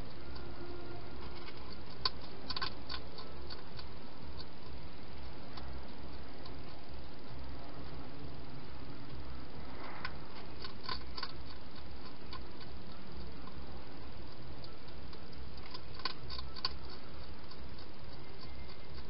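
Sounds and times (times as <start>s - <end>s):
hedgehog crunching food: 0.0s - 19.0s
steady background hiss: 0.0s - 19.0s.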